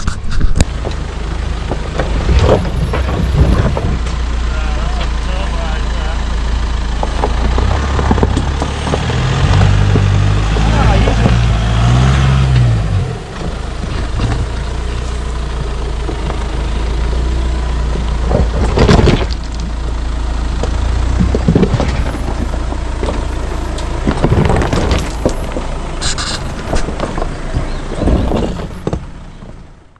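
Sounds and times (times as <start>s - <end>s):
tyres crunching on stones: 0.0s - 5.3s, 6.8s - 29.9s
engine rumble: 0.0s - 29.9s.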